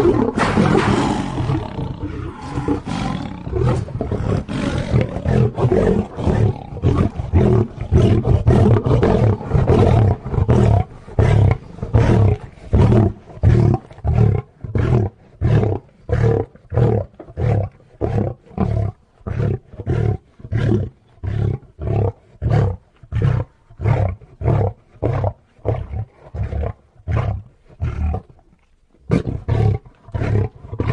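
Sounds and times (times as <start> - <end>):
lion roaring pulses: 0.0 - 28.3.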